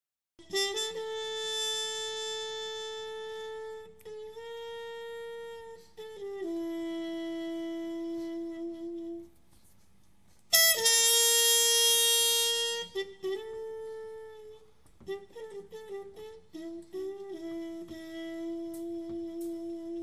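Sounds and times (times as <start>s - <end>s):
wind instrument holding long notes: 0.4s - 9.8s, 10.5s - 20.0s.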